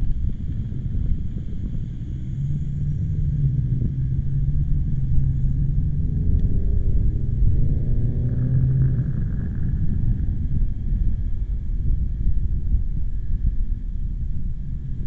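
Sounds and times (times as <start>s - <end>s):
vehicle engine hum: 0.0s - 15.0s
wind buffeting microphone: 0.0s - 15.0s.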